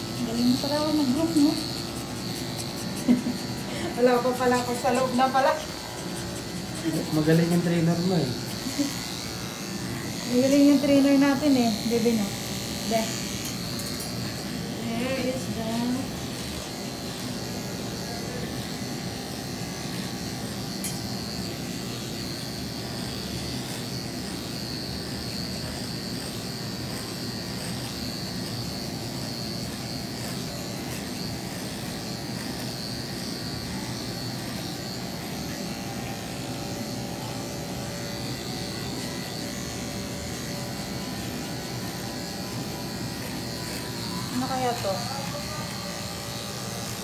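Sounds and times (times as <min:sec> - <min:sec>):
electric clipper humming: 0:00.0 - 0:47.0.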